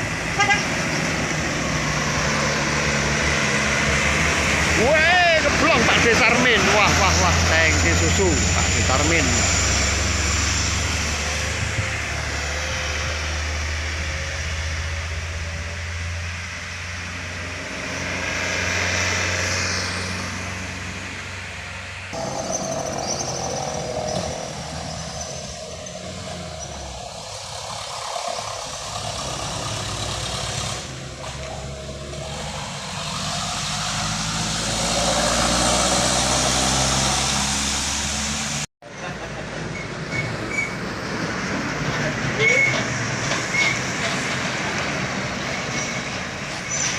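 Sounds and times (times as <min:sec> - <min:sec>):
heavy diesel trucks climbing: 0:00.0 - 0:46.9.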